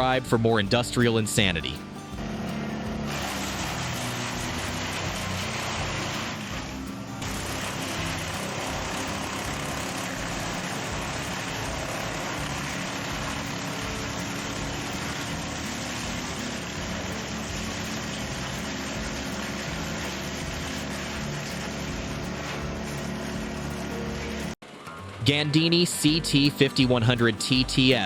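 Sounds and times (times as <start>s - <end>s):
large machine engine running: 1.2s - 27.2s.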